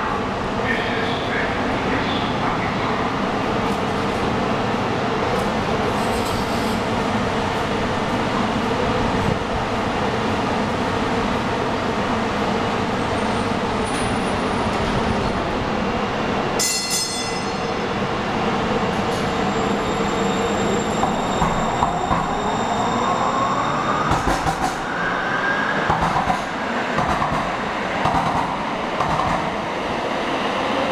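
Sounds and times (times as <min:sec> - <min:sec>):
train hum and rumble: 0:00.0 - 0:30.9.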